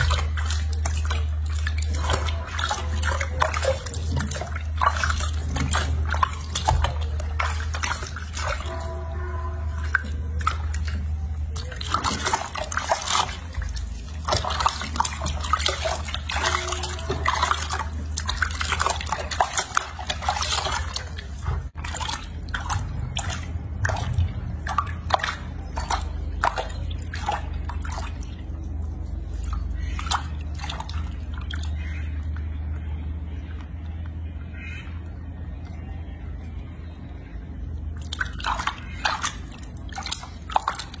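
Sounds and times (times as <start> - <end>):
low hum: 0.0 - 41.0
water splashing in a washbasin: 0.0 - 41.0.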